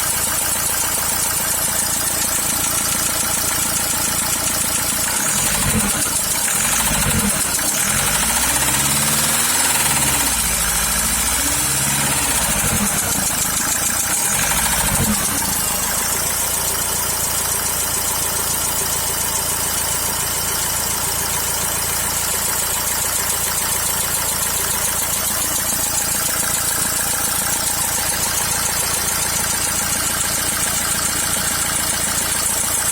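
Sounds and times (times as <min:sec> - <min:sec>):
diesel engine revving and idling: 0:00.0 - 0:32.9
engine knock: 0:00.0 - 0:32.9.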